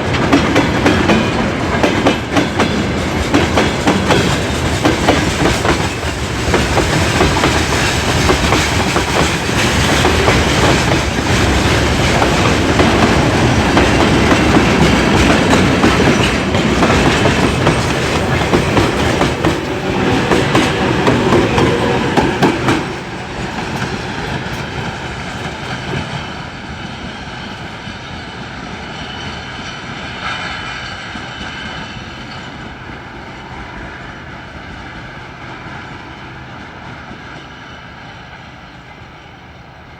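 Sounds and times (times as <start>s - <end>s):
train wheels clattering on rails: 0.0s - 39.6s.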